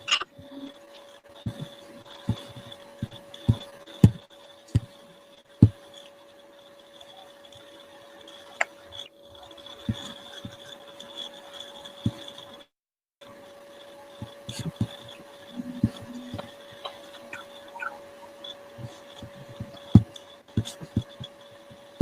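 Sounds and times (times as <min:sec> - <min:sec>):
electrical hum: 0:00.0 - 0:22.0
faint high whine: 0:00.0 - 0:22.0.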